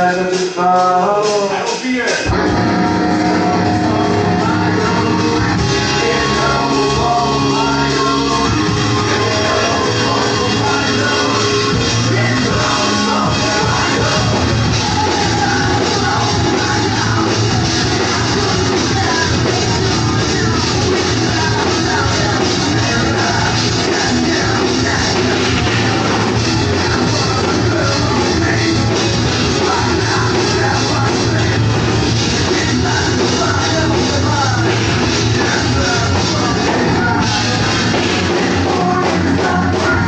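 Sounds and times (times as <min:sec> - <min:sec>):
punk rock band playing live: 0:00.0 - 0:40.0
singer shouting vocals: 0:00.0 - 0:40.0.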